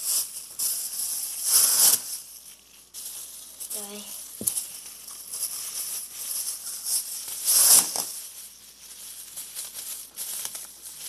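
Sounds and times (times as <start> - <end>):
plastic gloves rustling and crinkling: 0.0 - 11.0.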